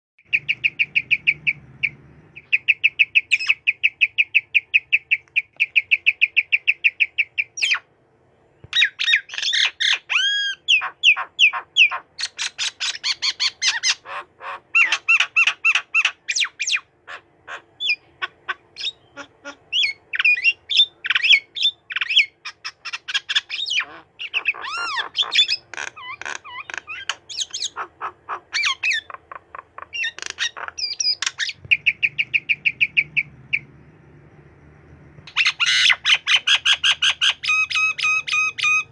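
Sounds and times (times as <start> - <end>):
bird singing: 0.2 - 38.9.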